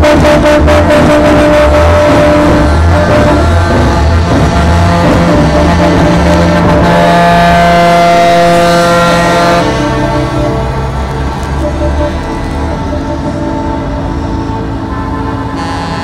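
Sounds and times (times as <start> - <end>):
diesel truck engines rumbling: 0.0 - 16.0
truck air horns blasting: 0.0 - 16.0.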